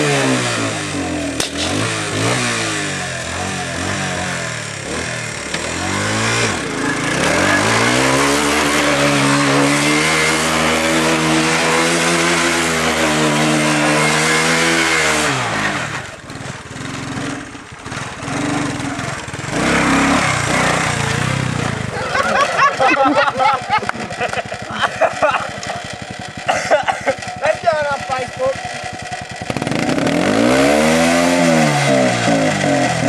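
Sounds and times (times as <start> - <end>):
motorbike engine revving: 0.0 - 33.0.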